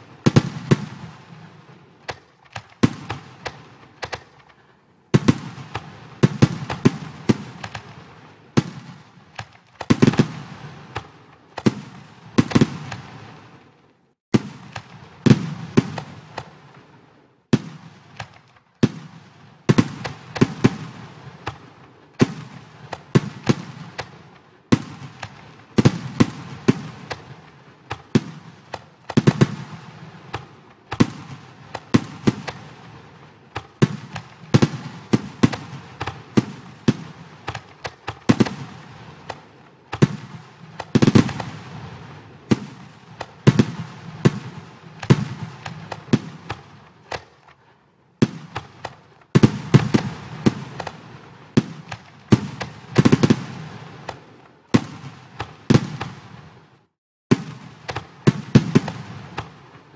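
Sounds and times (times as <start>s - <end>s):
firework bangs with crackle: 0.0s - 47.6s, 48.2s - 59.9s.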